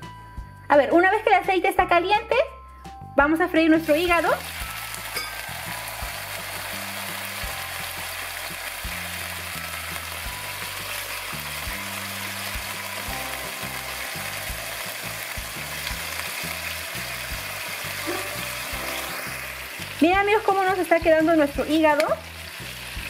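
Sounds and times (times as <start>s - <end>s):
liver sizzling in hot oil: 3.7s - 23.0s.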